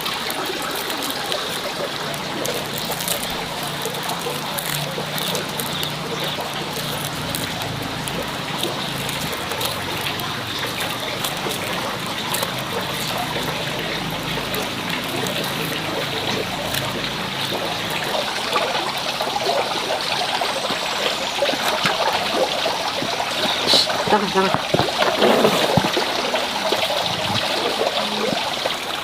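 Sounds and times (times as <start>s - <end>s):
water trickling: 0.0s - 29.0s.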